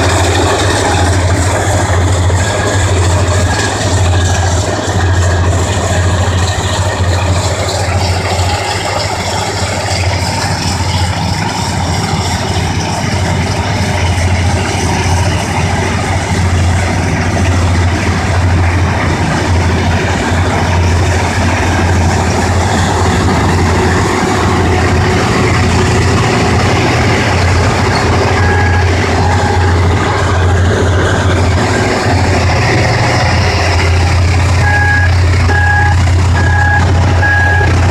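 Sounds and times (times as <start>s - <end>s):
combine harvester engine drone: 0.0s - 37.9s.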